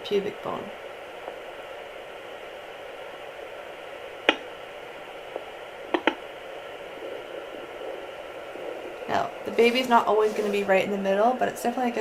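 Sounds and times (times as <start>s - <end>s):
doppler speaker static hiss: 0.0s - 12.0s
sharp crackling pops: 0.8s - 10.7s.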